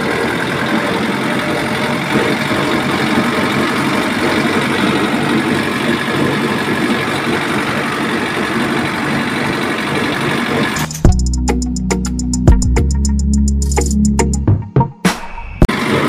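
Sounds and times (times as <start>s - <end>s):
tractor engine idling: 0.0s - 14.3s.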